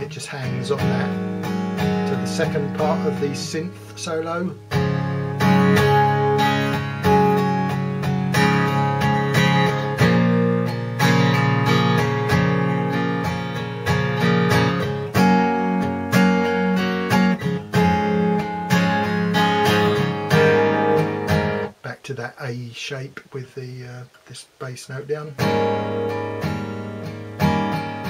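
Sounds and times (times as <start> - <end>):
guitar strummed chords: 0.0 - 21.9, 25.2 - 28.0.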